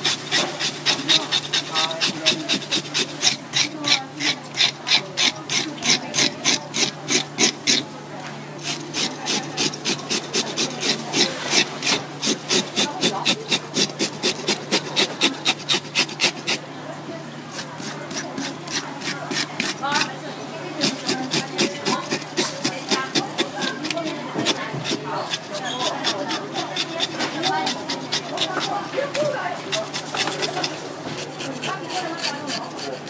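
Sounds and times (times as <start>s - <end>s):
metal scaler scraping fish scales: 0.0s - 7.9s, 8.6s - 16.6s, 17.5s - 33.0s.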